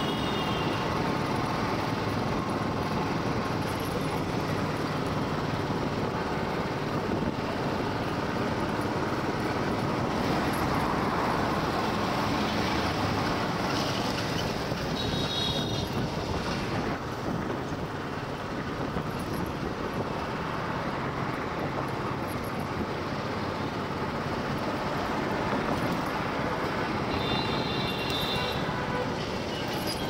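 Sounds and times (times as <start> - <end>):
motorcycle engine and road noise: 0.0 - 30.0.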